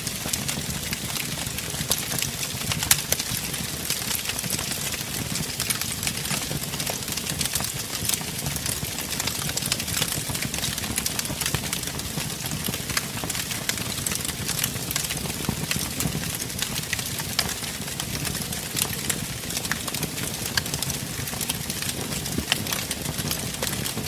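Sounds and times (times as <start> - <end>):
crackles and pops of burning logs: 0.0 - 24.0
hiss and rumble of flames: 0.0 - 24.0.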